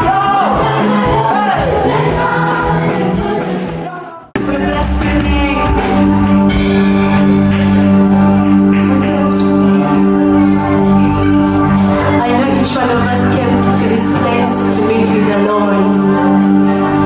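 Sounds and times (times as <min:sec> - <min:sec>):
gospel church singing: 0:00.0 - 0:17.0
music with long held chords: 0:00.0 - 0:17.0.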